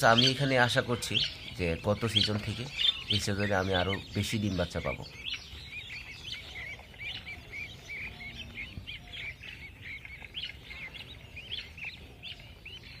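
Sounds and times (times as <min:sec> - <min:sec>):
budgerigars chirping: 0:00.0 - 0:13.0.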